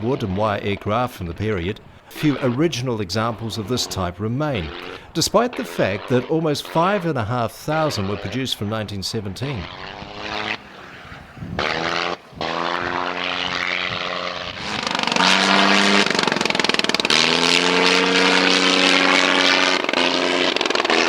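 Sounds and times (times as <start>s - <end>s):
propeller aircraft engine droning: 0.0s - 21.0s.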